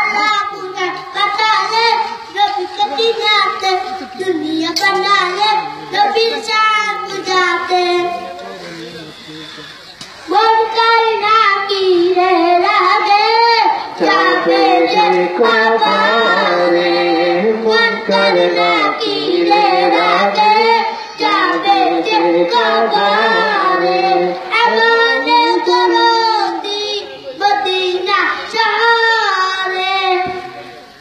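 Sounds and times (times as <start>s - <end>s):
boy singing into a microphone: 0.0s - 8.4s, 10.3s - 30.7s.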